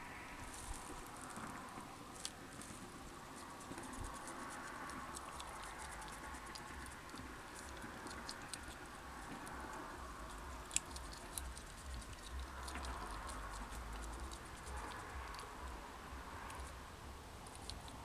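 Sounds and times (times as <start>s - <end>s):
low steady hum: 0.0s - 18.0s
hedgehog snuffling: 0.4s - 18.0s
small clicks and scratches on concrete: 0.5s - 15.8s.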